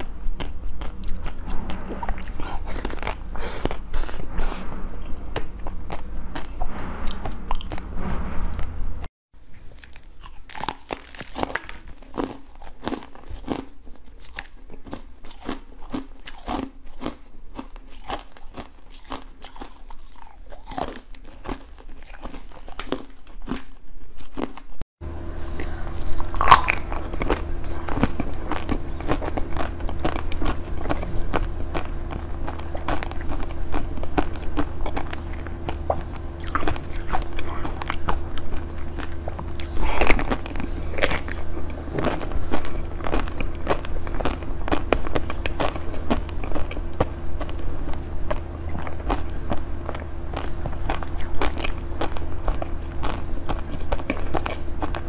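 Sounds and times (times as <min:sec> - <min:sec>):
chewing jelly candies: 0:00.0 - 0:04.2, 0:09.5 - 0:24.8, 0:25.6 - 0:55.0.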